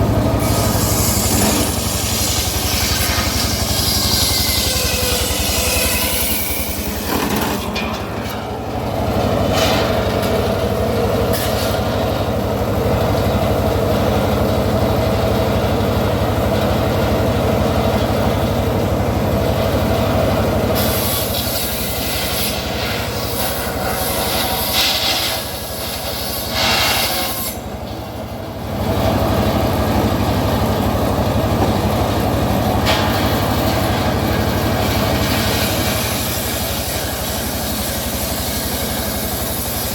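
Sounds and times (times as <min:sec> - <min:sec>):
circular saw blade cutting log: 0:00.0 - 0:18.6, 0:19.2 - 0:39.9
engine drone: 0:00.0 - 0:39.9.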